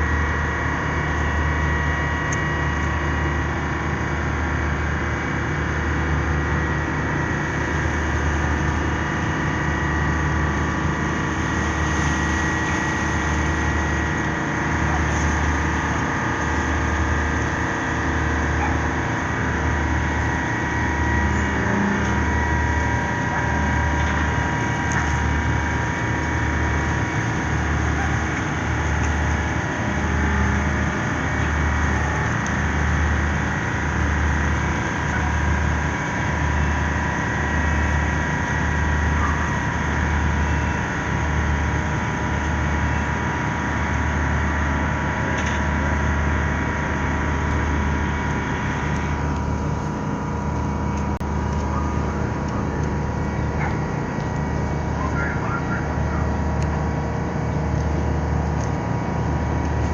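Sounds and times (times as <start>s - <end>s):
ship diesel engine throbbing: 0.0s - 59.9s.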